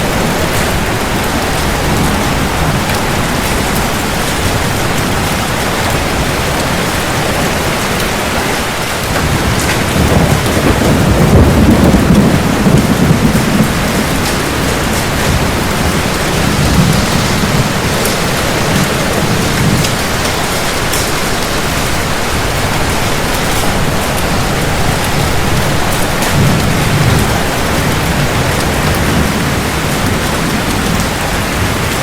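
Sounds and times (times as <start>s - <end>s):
heavy rain falling: 0.0s - 32.0s
thunder rumbling: 0.0s - 32.0s.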